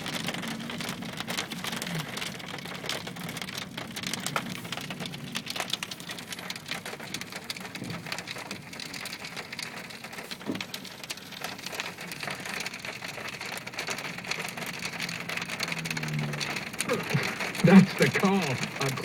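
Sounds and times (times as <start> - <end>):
hailstones pelting hard surface: 0.0 - 19.0
rain hiss: 0.0 - 19.0.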